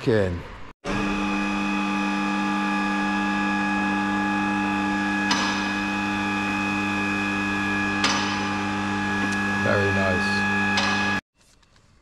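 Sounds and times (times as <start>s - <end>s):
machine hum: 0.5s - 11.2s.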